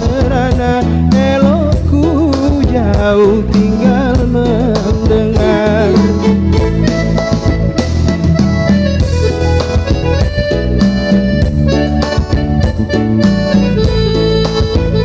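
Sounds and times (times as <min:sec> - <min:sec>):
held instrumental melody: 0:00.0 - 0:15.0.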